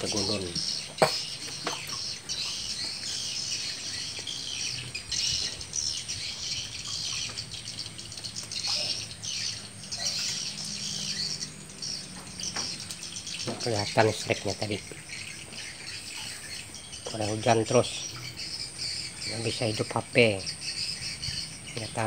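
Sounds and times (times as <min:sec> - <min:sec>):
night birds chirping: 0:00.0 - 0:22.0.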